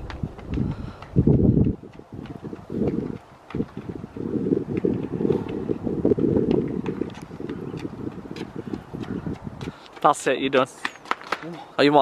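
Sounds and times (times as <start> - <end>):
wind buffeting microphone: 0.0 - 11.3
footsteps on paving: 0.0 - 12.0.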